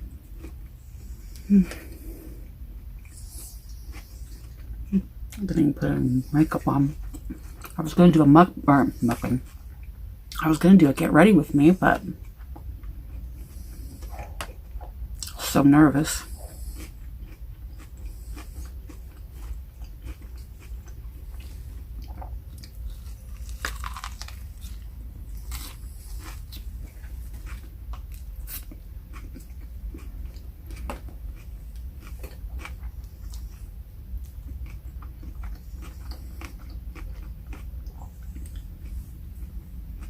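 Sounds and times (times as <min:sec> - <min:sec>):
person chewing food: 0:00.0 - 0:07.8, 0:12.0 - 0:15.4, 0:16.2 - 0:40.0
low steady hum: 0:00.0 - 0:40.0.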